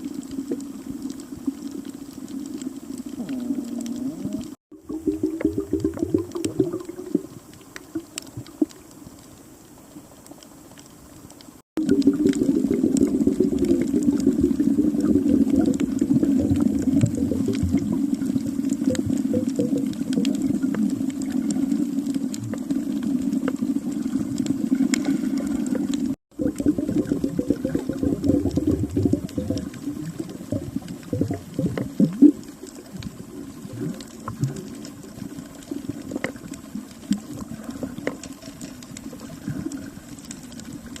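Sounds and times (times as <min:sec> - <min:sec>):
low underwater rush: 0:00.0 - 0:41.0
underwater bubbling and crackling: 0:00.0 - 0:41.0.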